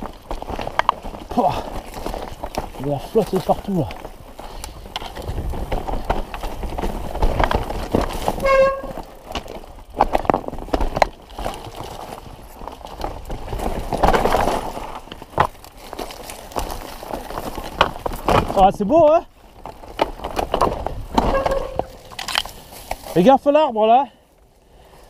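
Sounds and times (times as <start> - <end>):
bike knocks and rattles: 0.0 - 23.6.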